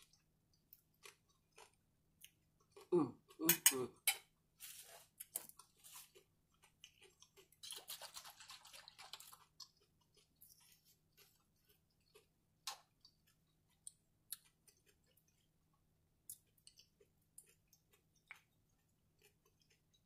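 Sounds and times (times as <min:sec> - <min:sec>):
close-up chewing: 0:00.0 - 0:03.4, 0:05.0 - 0:20.0.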